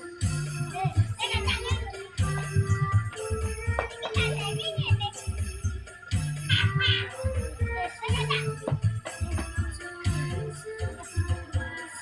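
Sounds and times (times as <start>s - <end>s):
bells jingling: 0.0s - 12.0s
dance music with deep bass beat: 0.0s - 12.0s.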